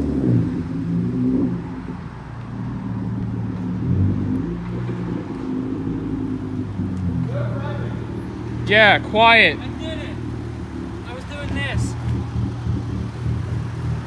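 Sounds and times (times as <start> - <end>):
car engine and exhaust: 0.0 - 14.0.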